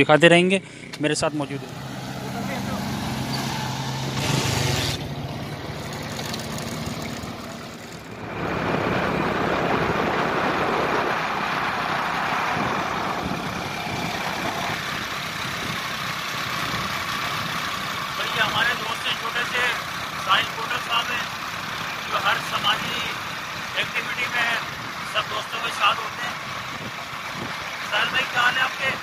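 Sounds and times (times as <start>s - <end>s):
wind and road noise: 0.0s - 29.0s
motorcycle engine running: 0.8s - 25.4s
pickup truck engine passing: 0.8s - 29.0s.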